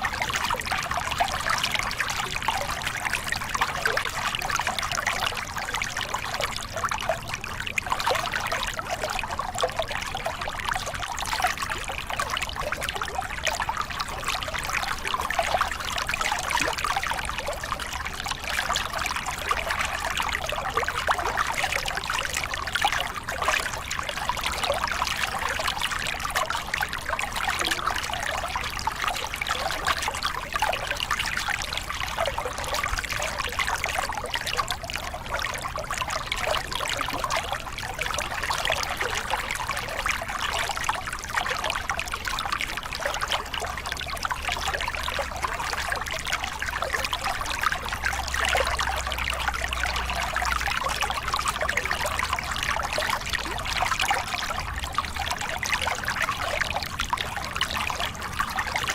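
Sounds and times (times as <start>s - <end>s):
water splashing over rocks: 0.0s - 58.9s.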